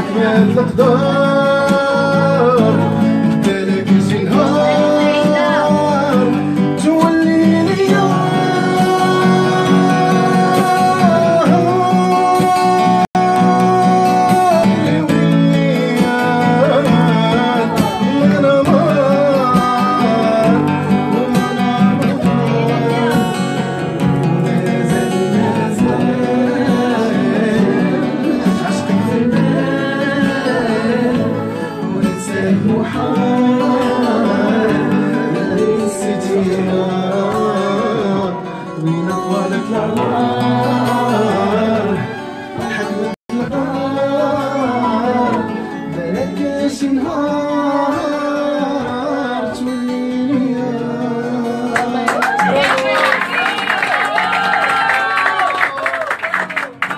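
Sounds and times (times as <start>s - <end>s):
man singing: 0.0s - 52.9s.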